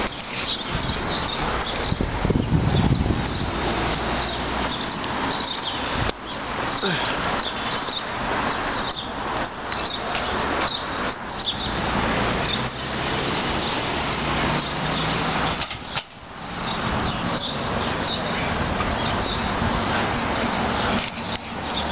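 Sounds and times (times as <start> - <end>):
small birds chirping: 0.0 - 13.0, 13.6 - 21.9
street traffic noise: 0.0 - 21.9.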